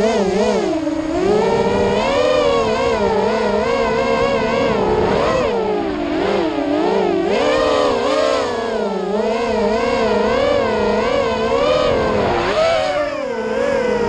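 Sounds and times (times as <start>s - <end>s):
drone motors and propellers whining: 0.0s - 14.0s.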